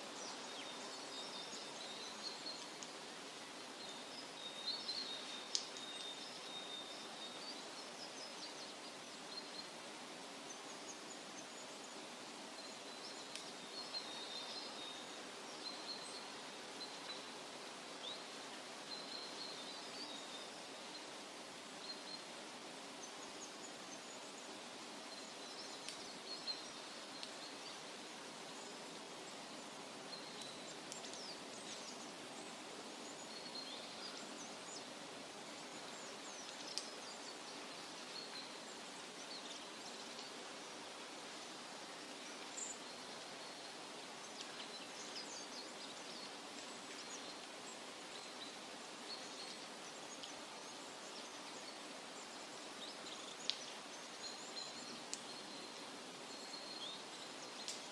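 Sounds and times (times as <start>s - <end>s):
small birds chirping: 0.0s - 57.9s
soft outdoor hiss: 0.0s - 57.9s.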